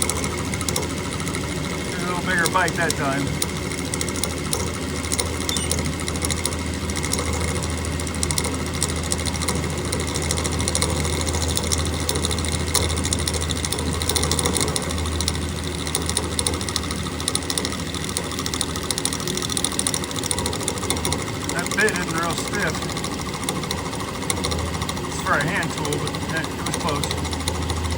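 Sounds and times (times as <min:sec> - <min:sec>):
milling bit chattering on metal: 0:00.0 - 0:27.9.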